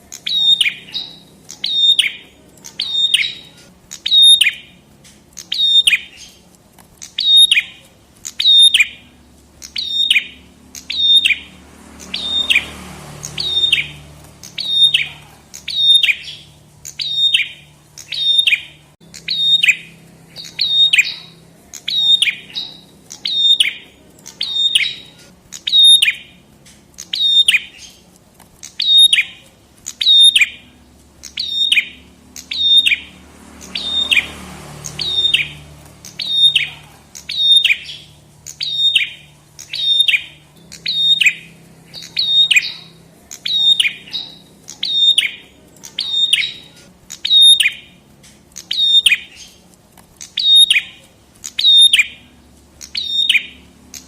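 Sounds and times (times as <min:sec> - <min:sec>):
bird sharp high calls: 0:00.0 - 0:54.0.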